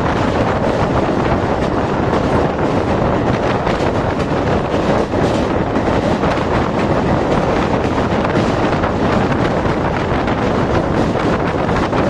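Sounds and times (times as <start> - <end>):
train wheels rumbling on rails: 0.0 - 12.0
wind on microphone: 0.0 - 12.0.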